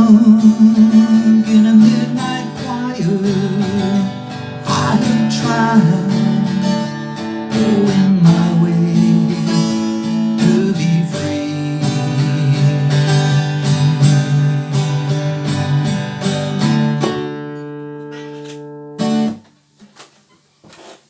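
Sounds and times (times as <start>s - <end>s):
acoustic guitar picking chords: 0.0s - 19.7s.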